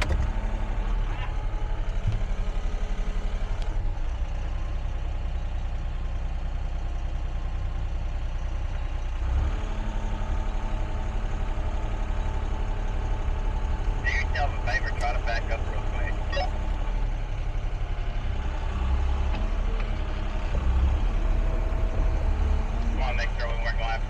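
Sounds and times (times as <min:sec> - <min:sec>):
excavator diesel engine throbbing: 0:00.0 - 0:24.0.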